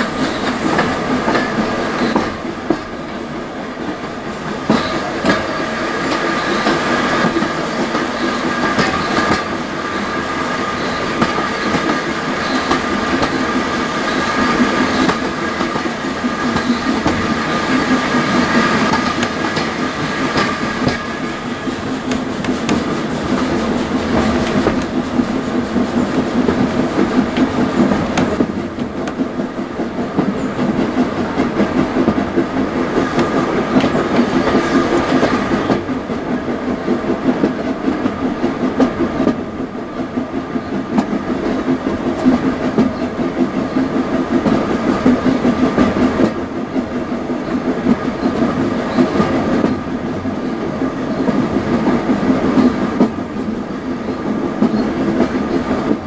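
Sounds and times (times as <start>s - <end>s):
wheels rumbling on track: 0.0s - 56.0s.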